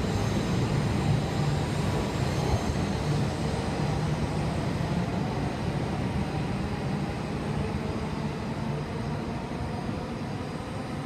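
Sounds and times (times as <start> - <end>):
train low rumble with hum: 0.0 - 11.0.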